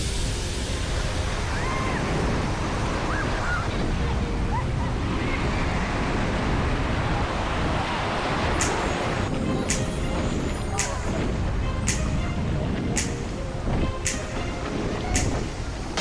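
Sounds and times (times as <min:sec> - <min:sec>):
ocean surf washing: 0:00.0 - 0:16.0
wind rumbling on microphone: 0:00.0 - 0:16.0.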